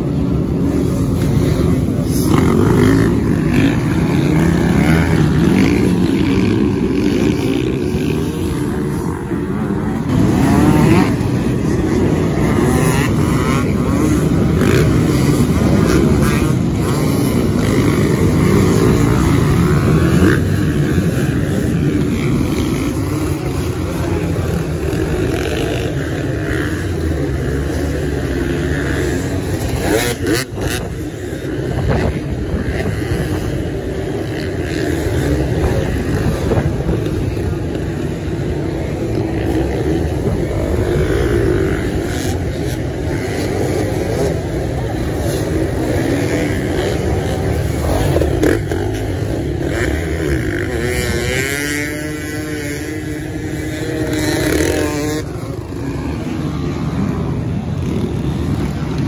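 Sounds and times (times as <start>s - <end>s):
motocross bike engines revving: 0.0s - 59.0s.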